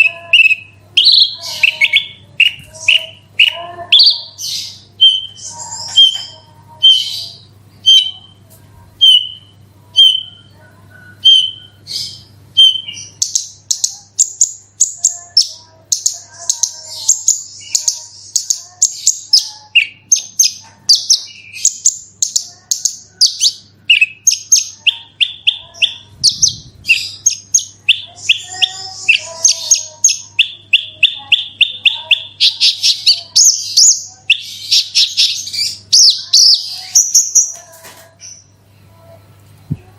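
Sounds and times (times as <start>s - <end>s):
lark singing high chirps and trills: 0.0s - 8.3s, 9.0s - 10.5s, 11.1s - 37.6s.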